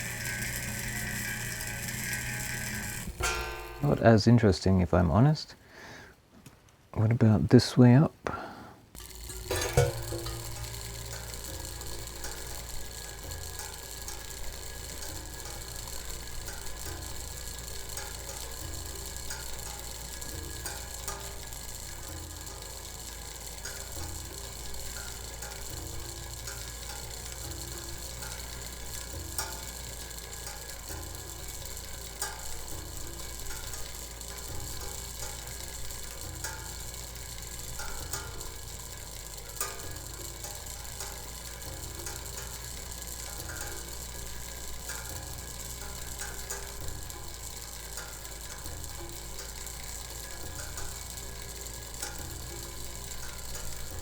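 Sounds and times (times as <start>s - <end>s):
clockwork mechanism ticking and whirring: 0.0s - 5.4s, 8.9s - 54.0s.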